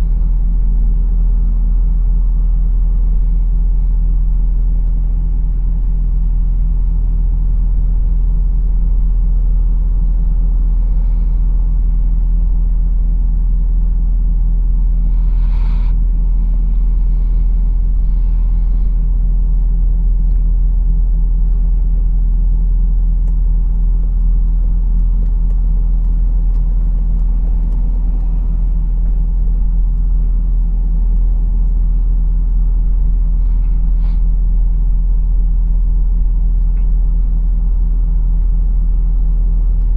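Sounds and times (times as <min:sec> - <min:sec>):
diesel engine droning: 0:00.0 - 0:38.4.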